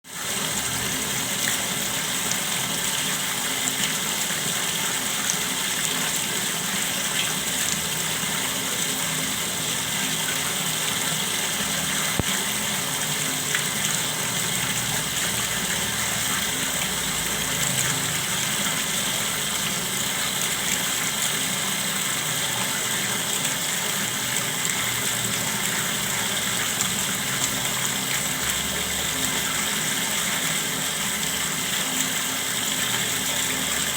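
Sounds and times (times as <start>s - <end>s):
water flowing: 0.1s - 33.9s.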